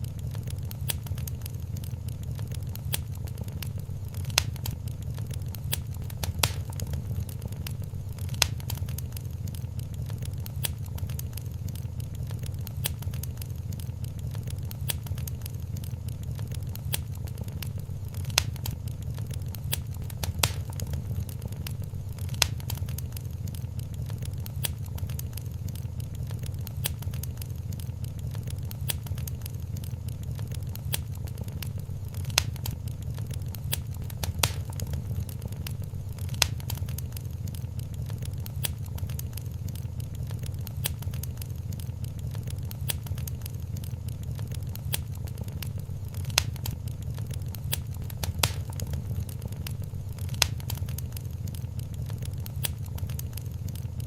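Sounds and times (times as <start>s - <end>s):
fire rumbling and crackling: 0.0s - 54.0s
wood fire popping: 0.0s - 54.0s.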